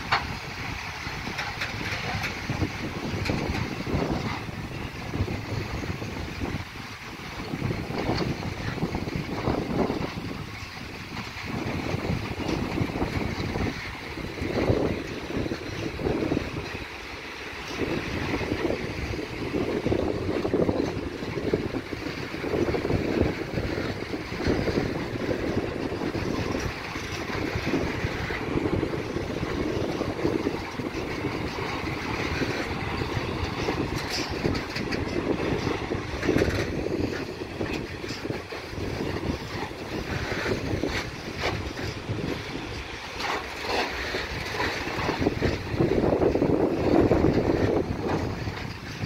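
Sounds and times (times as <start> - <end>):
freight train wheels clattering: 0.0 - 49.0.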